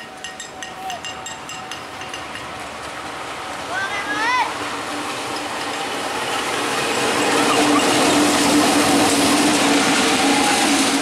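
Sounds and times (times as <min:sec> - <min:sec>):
diesel locomotive engine drone: 0:00.0 - 0:11.0
rail running noise: 0:00.0 - 0:11.0.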